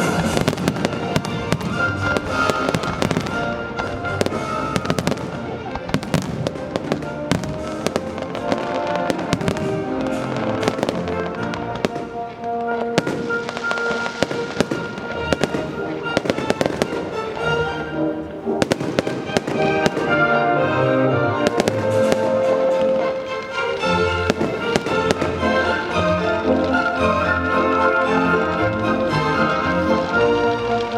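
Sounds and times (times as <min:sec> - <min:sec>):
fireworks bangs and crackles: 0:00.0 - 0:30.9
music with sustained notes: 0:00.0 - 0:30.9.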